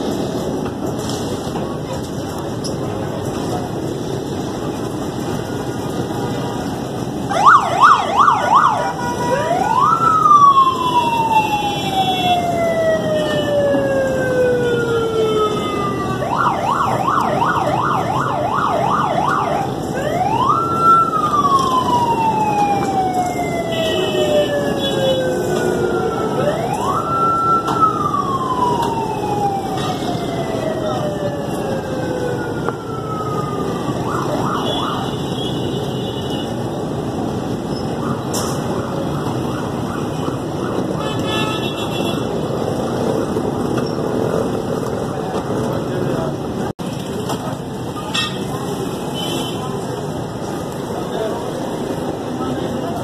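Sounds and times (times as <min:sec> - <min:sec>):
emergency vehicle siren: 0:00.0 - 0:53.0
street noise: 0:00.0 - 0:53.0.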